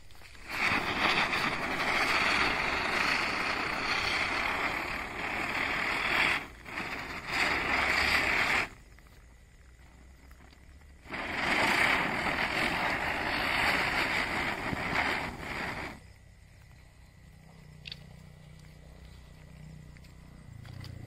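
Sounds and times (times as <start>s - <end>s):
ground spinner firecracker hissing: 0.0s - 19.6s.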